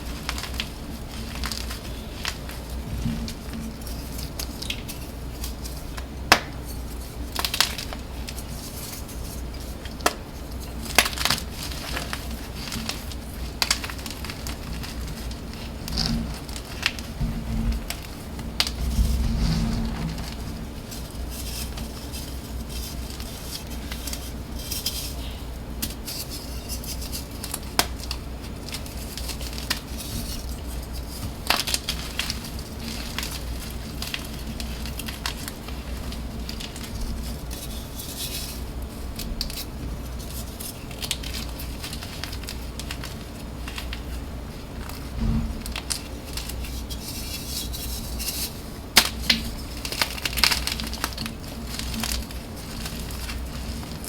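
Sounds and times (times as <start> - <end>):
chalk crackling crushed by hand: 0.0 - 54.0
low steady hum: 0.0 - 54.0.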